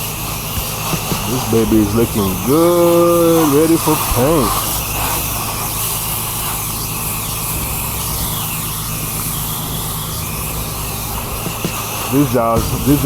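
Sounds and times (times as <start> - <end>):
pressure washer engine running: 0.0 - 13.0
water spraying hiss: 0.0 - 13.0.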